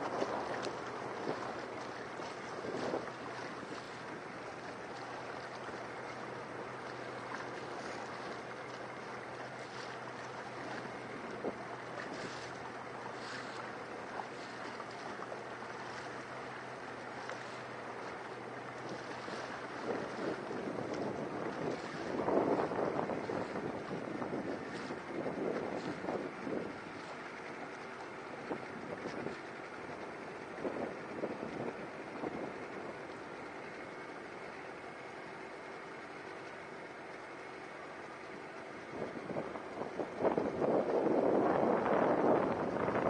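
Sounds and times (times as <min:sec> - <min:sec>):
wind buffeting microphone: 0:00.0 - 0:33.1, 0:38.3 - 0:43.0
small boat engine hum: 0:00.0 - 0:43.0
water washing around hull: 0:00.0 - 0:43.0.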